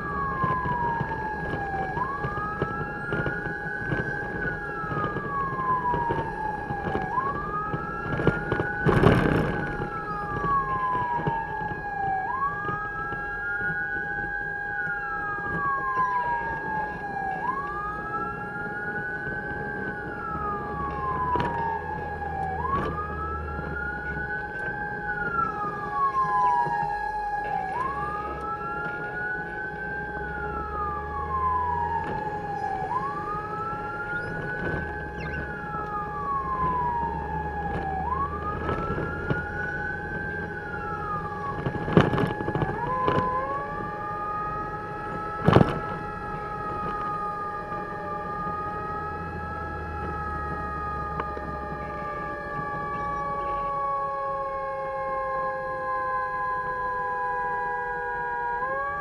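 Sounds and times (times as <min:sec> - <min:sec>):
fire truck siren wailing: 0:00.0 - 0:59.0
low engine rumble: 0:00.0 - 0:59.0.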